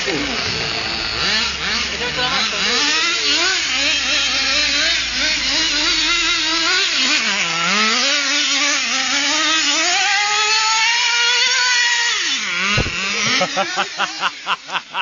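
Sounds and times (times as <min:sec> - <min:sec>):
rc car engine revving: 0:00.0 - 0:15.0.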